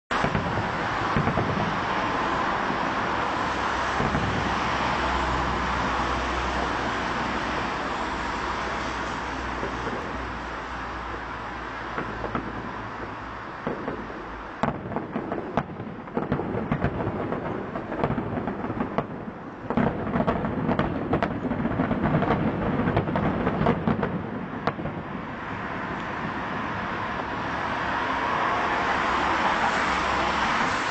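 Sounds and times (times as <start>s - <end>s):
continuous rumble: 0.1s - 30.9s
fireworks bangs and crackles: 0.1s - 30.9s
steady rushing noise: 0.1s - 30.9s.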